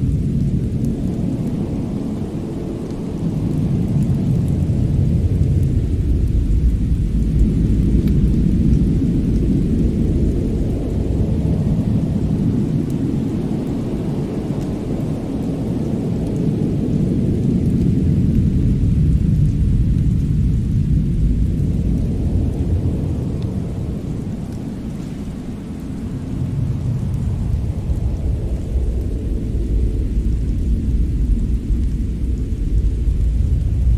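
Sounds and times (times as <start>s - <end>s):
deep wind rumble: 0.0s - 33.9s
faint fire crackles: 0.0s - 33.9s.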